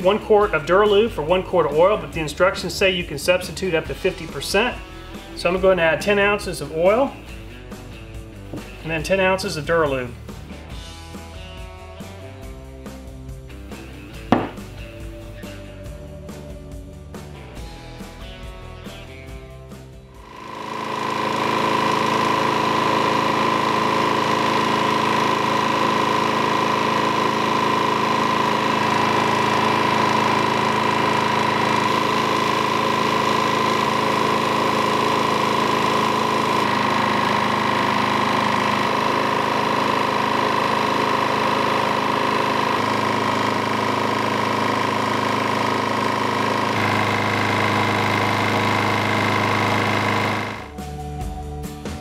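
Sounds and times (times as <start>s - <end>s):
mower engine running steadily: 0.0s - 51.5s.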